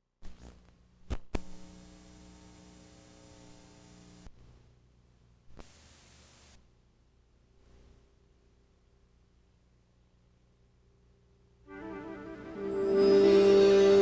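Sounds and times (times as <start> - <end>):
faint mains hum: 0.0 - 14.0.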